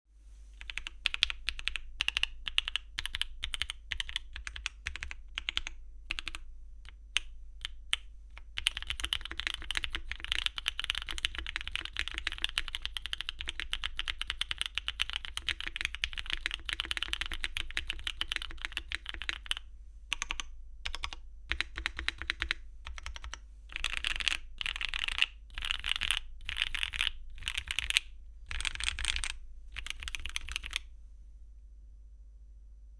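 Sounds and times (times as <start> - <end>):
mechanical keyboard typing: 0.6 - 30.9.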